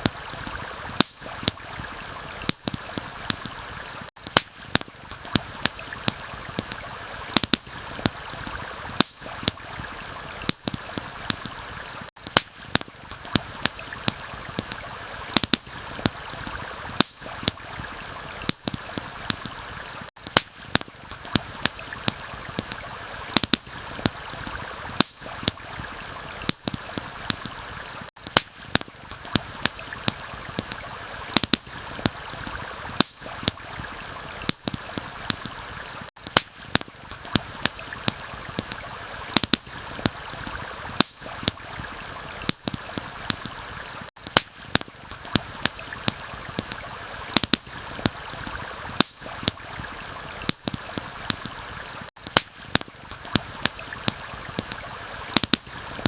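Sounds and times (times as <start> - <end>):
campfire crackling: 0.0 - 56.0
flowing stream water: 0.0 - 56.0.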